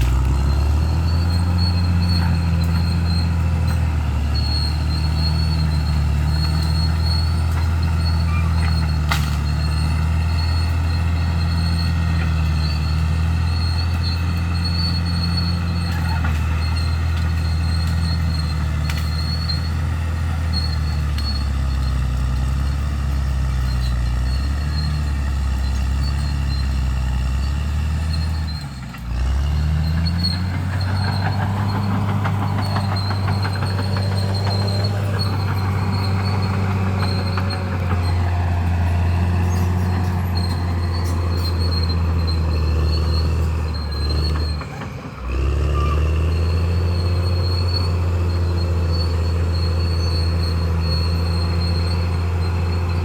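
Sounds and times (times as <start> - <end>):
bulldozer diesel engine running: 0.0 - 53.0
metallic squealing tracks: 0.0 - 53.0.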